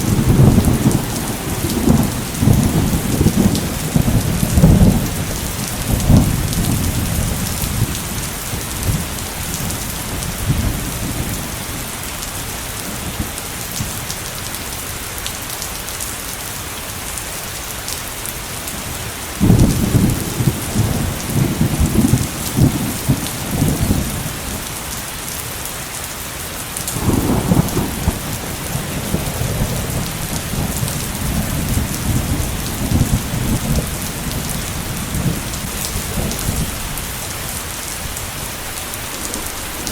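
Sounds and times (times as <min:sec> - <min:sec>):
thunder rumbling: 0:00.0 - 0:14.2, 0:18.8 - 0:25.0, 0:26.9 - 0:39.9
heavy rain: 0:00.0 - 0:39.9.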